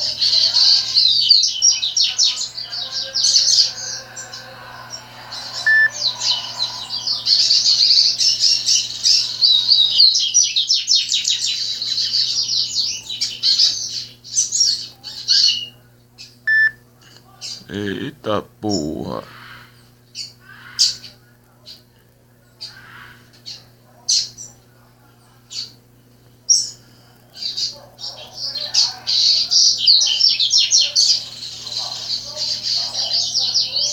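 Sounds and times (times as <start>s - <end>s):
faint low hum: 0.0s - 33.9s
songbirds chirping trills: 0.0s - 33.9s.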